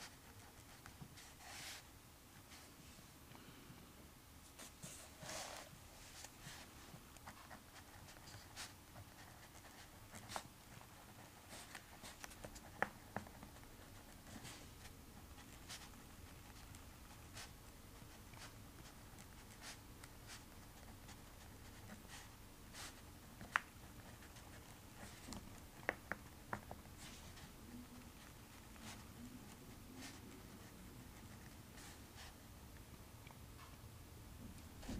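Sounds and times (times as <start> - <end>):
writing scratching on paper: 0.0 - 1.8, 4.6 - 32.4.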